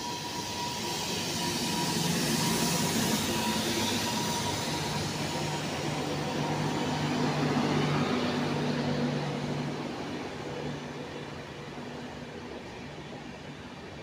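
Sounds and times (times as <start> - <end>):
train coaches rolling past: 0.0 - 14.0.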